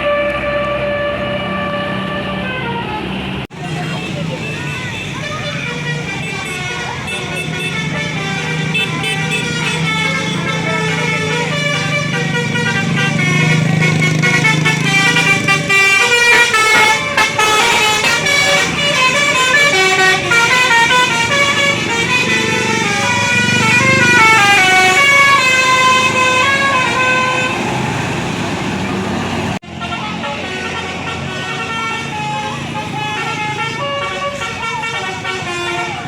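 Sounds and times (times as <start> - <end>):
bus engine humming: 0.0 - 36.0
multi-tone bus horn melody: 0.0 - 36.0.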